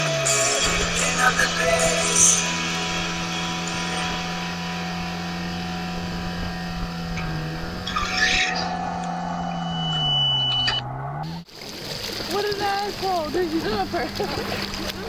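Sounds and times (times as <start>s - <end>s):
jet ski engine running: 0.0s - 15.0s
water rushing: 0.0s - 15.0s
wind: 0.0s - 15.0s.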